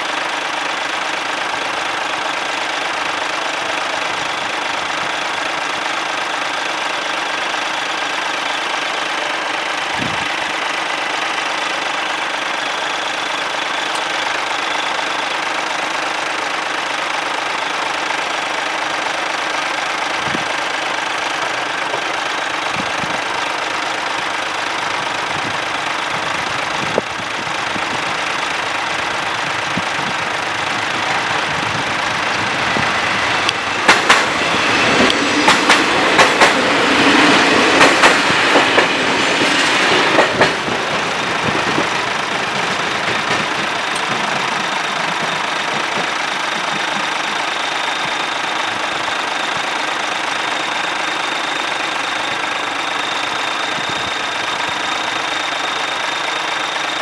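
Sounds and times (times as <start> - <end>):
diesel train passing: 0.0 - 57.0
lorry diesel engine idling: 0.0 - 57.0
train wheels clacking over rail joints: 0.2 - 57.0.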